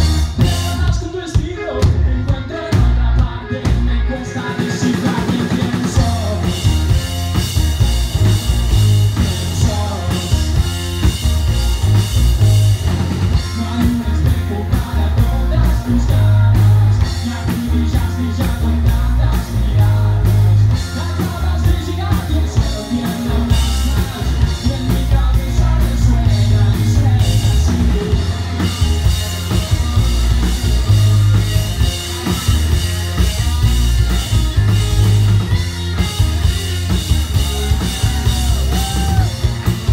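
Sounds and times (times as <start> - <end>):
lead singer: 0.0 - 39.9
live rock band: 0.0 - 39.9.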